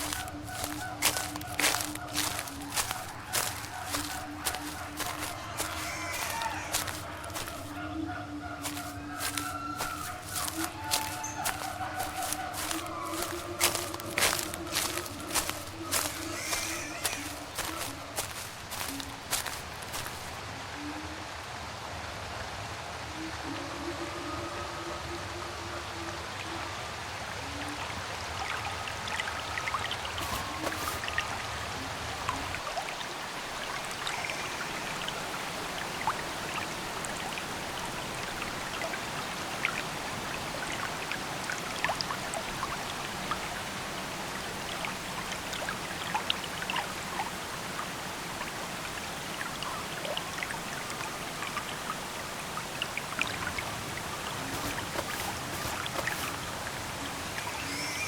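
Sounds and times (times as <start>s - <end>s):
water running: 0.0s - 7.8s, 8.6s - 20.4s, 29.6s - 58.0s
water drips and splashes: 0.0s - 7.9s, 8.6s - 20.4s, 27.4s - 58.0s.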